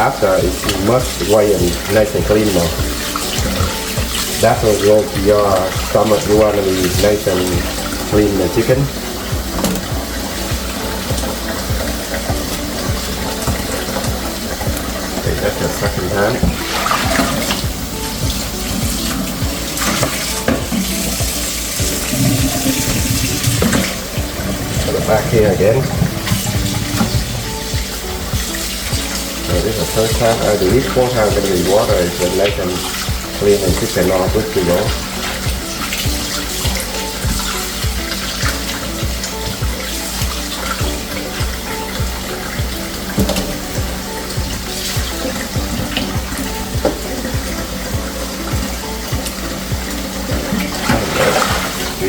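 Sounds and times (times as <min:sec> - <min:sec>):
background music with beat: 0:00.0 - 0:52.0
water splashing in a sink: 0:00.0 - 0:52.0.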